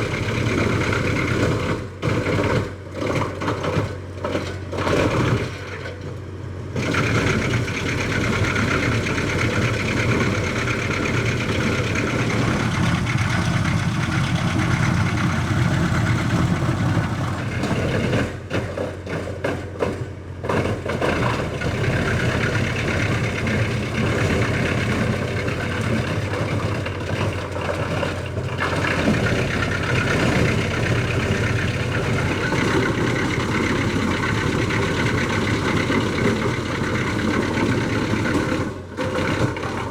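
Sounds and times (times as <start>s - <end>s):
wood chipper drone: 0.0s - 39.9s.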